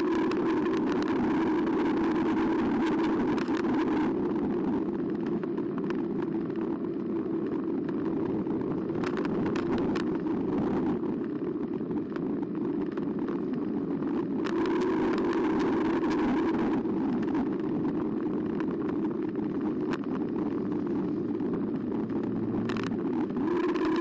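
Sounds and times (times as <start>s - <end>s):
bike rattling over bumps: 0.0s - 24.0s
tyre and wind rumble: 0.0s - 24.0s.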